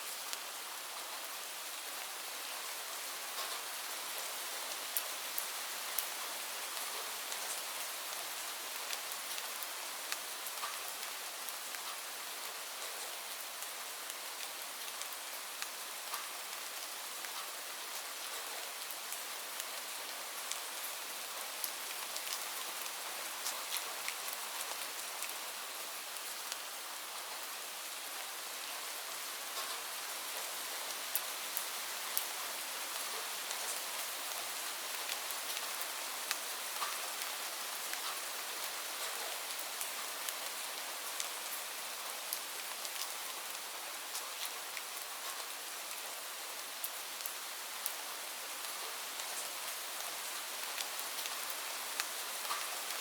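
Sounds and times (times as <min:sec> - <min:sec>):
steady rain hiss: 0:00.0 - 0:53.0
raindrops ticking on a surface: 0:00.2 - 0:01.2, 0:02.0 - 0:53.0.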